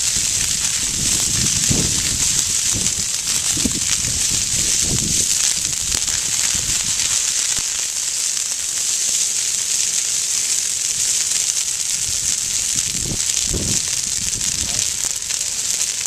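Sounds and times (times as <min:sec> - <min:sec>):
grass fire crackling and hissing: 0:00.0 - 0:16.0.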